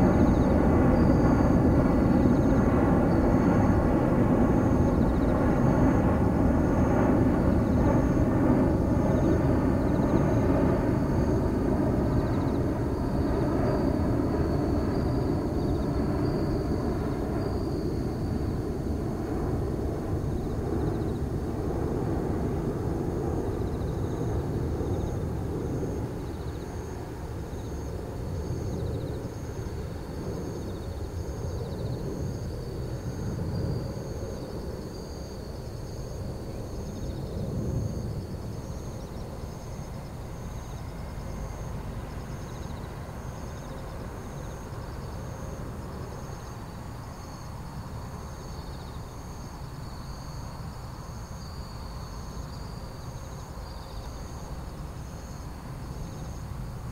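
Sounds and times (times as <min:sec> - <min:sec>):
insects chirping: 0:00.0 - 0:56.9
jet airliner rumbling overhead: 0:00.0 - 0:56.9.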